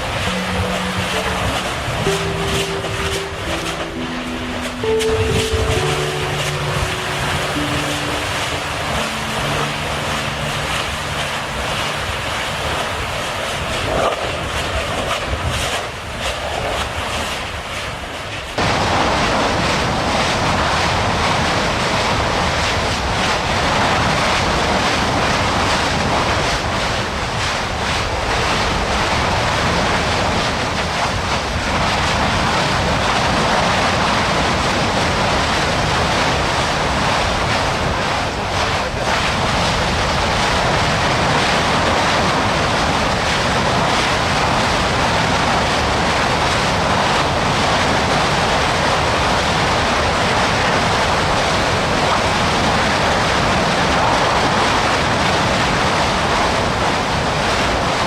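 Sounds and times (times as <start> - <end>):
loud steady rushing noise: 0.0 - 58.0.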